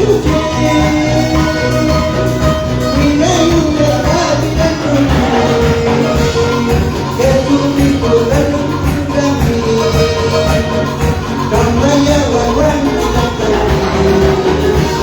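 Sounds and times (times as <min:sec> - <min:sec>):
steady bass beat: 0:00.0 - 0:15.0
worship band playing: 0:00.0 - 0:15.0.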